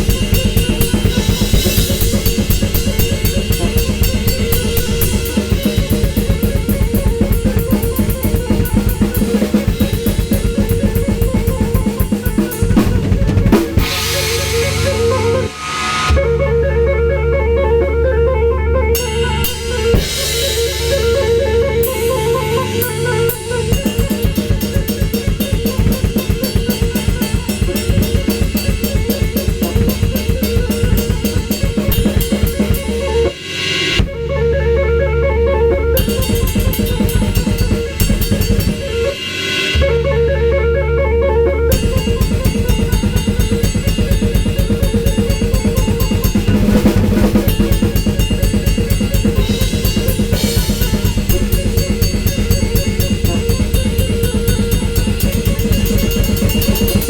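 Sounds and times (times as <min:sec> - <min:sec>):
fast drum kit playing: 0:00.0 - 0:16.4, 0:19.0 - 0:34.3, 0:35.9 - 0:40.5, 0:41.7 - 0:57.0
recorded audio samples: 0:00.0 - 0:57.0.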